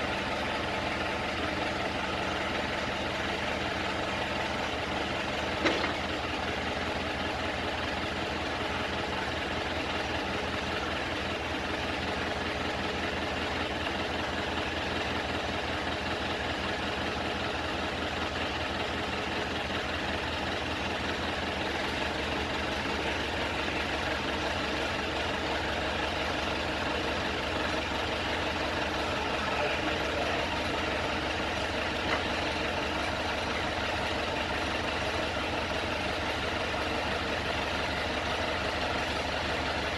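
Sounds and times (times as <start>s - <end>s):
forklift engine idling: 0.0s - 39.9s.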